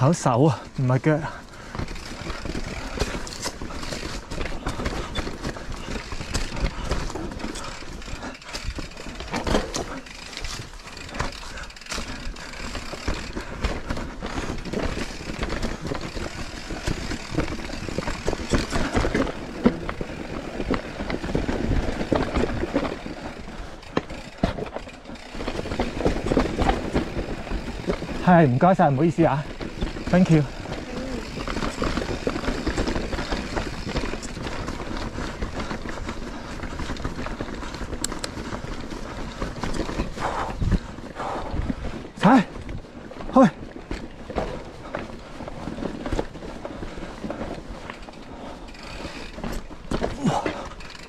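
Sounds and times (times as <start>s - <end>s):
bike tyres rolling on trail: 0.0s - 51.0s
bike knocks and rattles: 1.5s - 51.0s.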